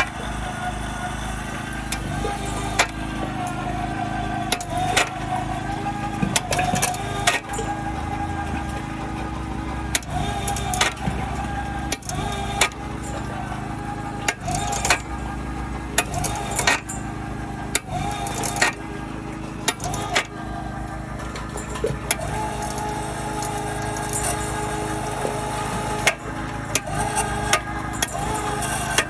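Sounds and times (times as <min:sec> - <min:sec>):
motor drone with whine: 0:00.0 - 0:29.0.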